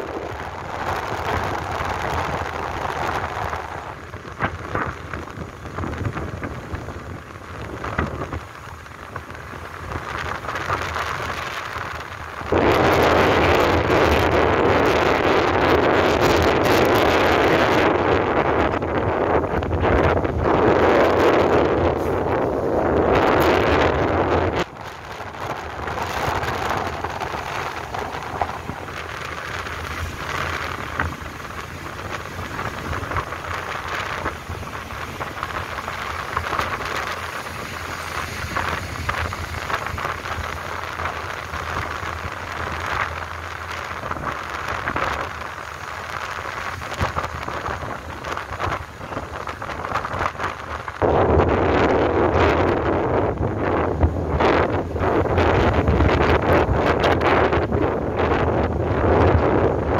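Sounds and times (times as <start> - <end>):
motorbike engine and road noise: 0.0 - 59.9
wind rushing over microphone: 0.0 - 59.9.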